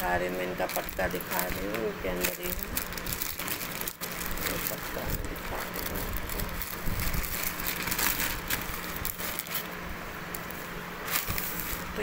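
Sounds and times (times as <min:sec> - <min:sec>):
plastic packet rustling: 0:00.0 - 0:12.0
sharp crackles: 0:00.6 - 0:12.0.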